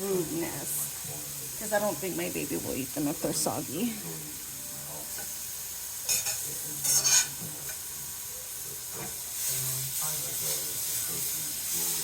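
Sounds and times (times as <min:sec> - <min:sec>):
banana slices sizzling in pan: 0:00.0 - 0:12.0.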